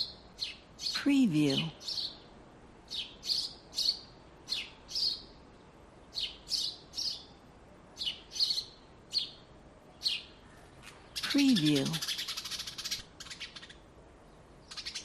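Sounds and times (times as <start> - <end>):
faint steady hiss: 0.0 - 15.0
songbirds chirping: 0.0 - 15.0.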